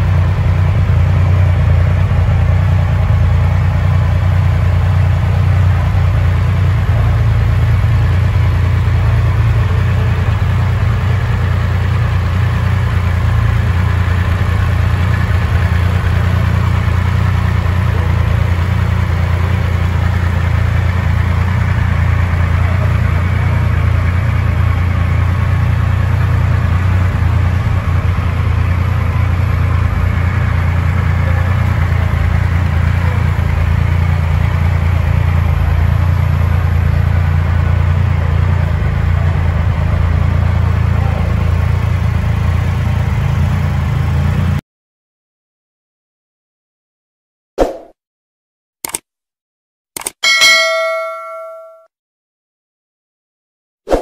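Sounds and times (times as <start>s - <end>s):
motorcycle engine idling: 0.0s - 44.6s.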